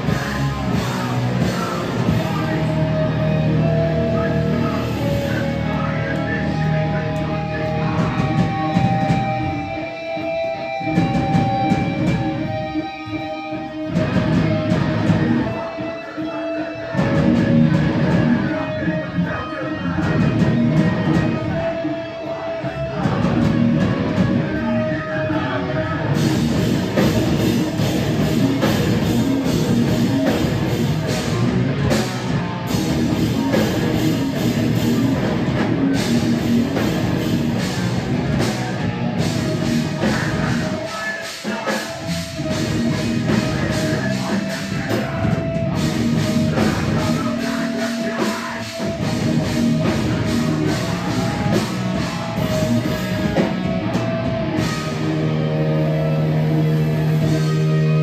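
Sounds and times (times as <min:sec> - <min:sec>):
live punk band playing: 0:00.0 - 0:58.0.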